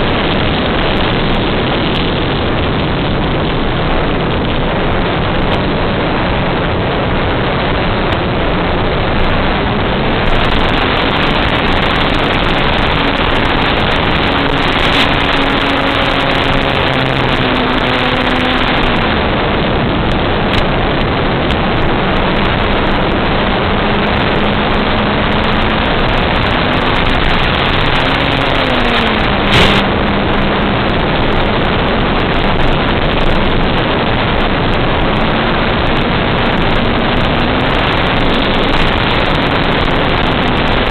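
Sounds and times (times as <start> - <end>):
wind and propeller rushing: 0.0 - 40.9.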